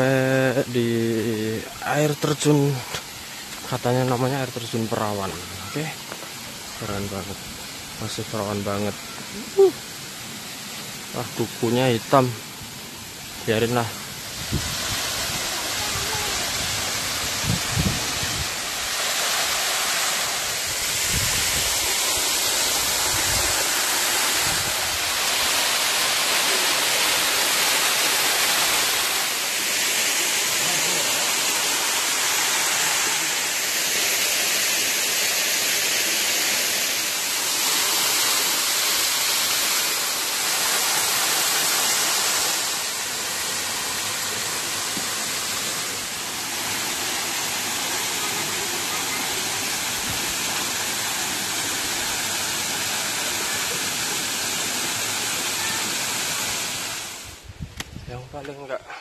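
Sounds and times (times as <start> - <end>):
waterfall rushing: 0.0 - 57.5.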